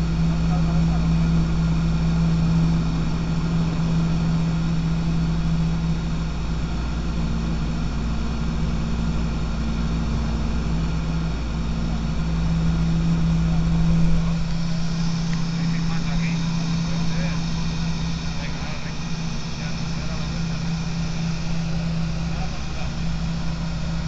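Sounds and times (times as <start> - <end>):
aircraft engine and propeller droning: 0.0 - 24.0.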